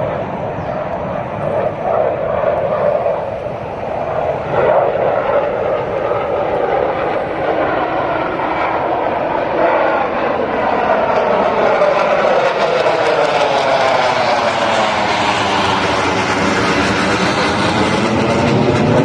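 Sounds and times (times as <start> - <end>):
jet aircraft flying overhead: 0.0 - 19.0.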